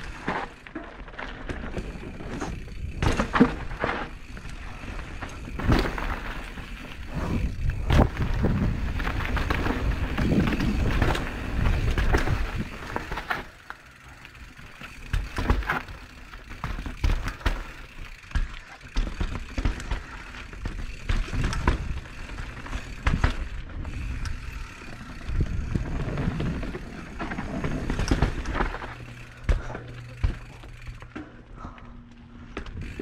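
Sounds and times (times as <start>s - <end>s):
bike knocking and rattling: 0.0s - 33.0s
bike tyres rolling over dirt: 0.0s - 33.0s.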